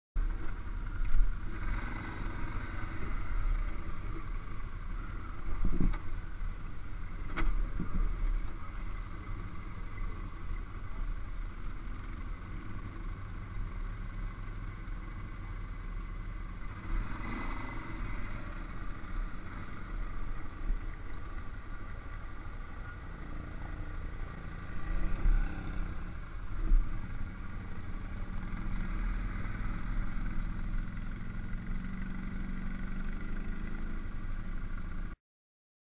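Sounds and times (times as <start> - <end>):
quad engines idling and revving: 0.3 - 35.2.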